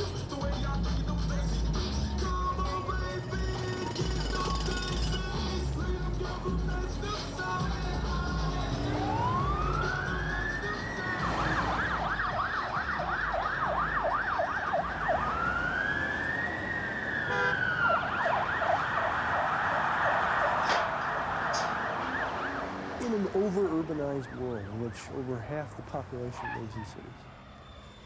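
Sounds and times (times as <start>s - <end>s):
street traffic rumble: 0.0s - 28.0s
emergency vehicle siren: 2.0s - 28.0s.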